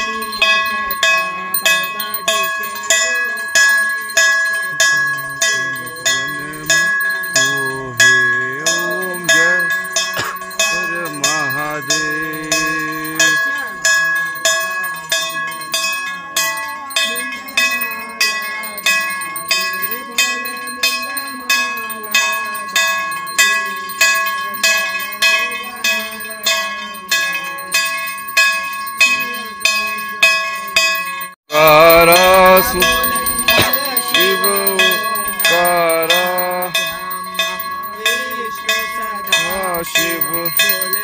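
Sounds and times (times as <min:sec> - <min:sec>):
people singing: 0:00.0 - 0:03.9, 0:04.6 - 0:27.6, 0:31.5 - 0:41.0
temple bell ringing: 0:00.0 - 0:41.0.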